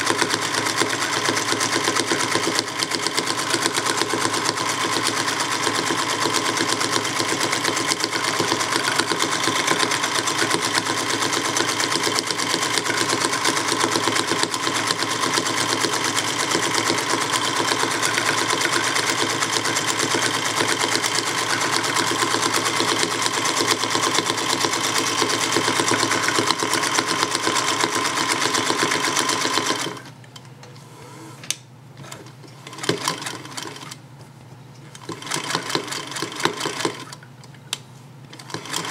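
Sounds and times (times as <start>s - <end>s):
sewing machine running: 0.0s - 30.2s, 32.0s - 34.0s, 35.0s - 37.2s, 38.4s - 38.9s.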